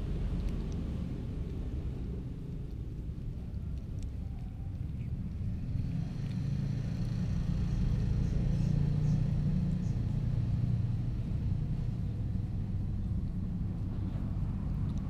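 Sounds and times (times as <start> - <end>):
kitten purring: 0.0 - 15.0.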